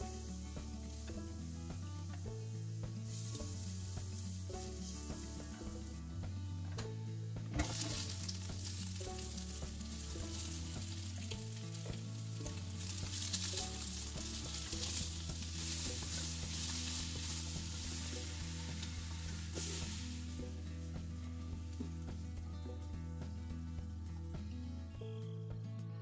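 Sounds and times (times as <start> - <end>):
oil sizzling in a pot: 0.0 - 24.4
spatula stirring vegetables: 0.0 - 24.4
soft background music with bass: 0.0 - 26.0.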